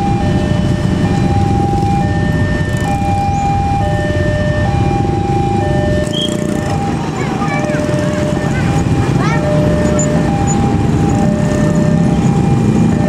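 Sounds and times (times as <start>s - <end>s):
level crossing two-tone alarm: 0.0s - 13.0s
low rumble of traffic: 0.0s - 13.0s.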